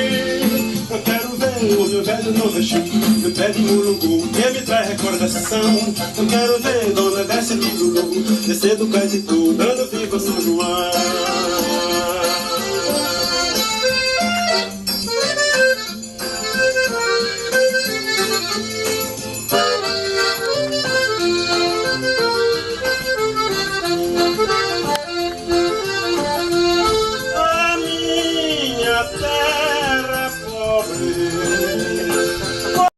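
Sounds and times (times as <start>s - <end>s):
accordion playing folk dance music: 0.0s - 32.9s
backing instruments: 0.0s - 32.9s.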